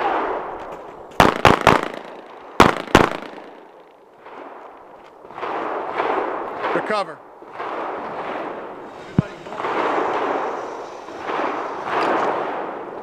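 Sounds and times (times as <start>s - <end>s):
pistol shots: 0.0s - 12.9s.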